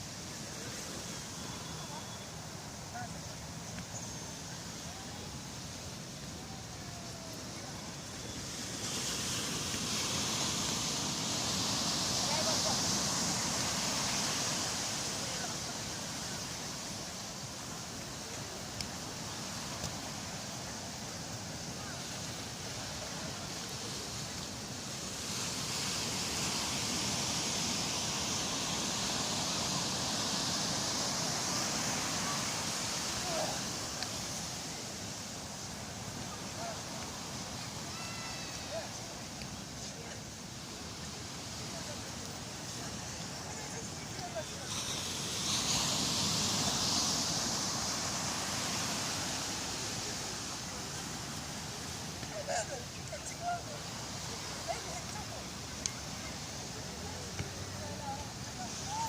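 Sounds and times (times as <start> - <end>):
sea waves on beach: 0.0 - 3.8, 4.4 - 59.0.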